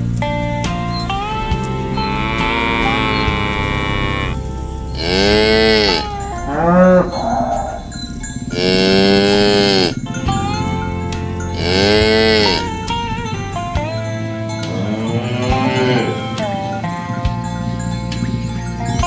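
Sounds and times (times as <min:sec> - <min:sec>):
cattle mooing: 0:00.3 - 0:17.9.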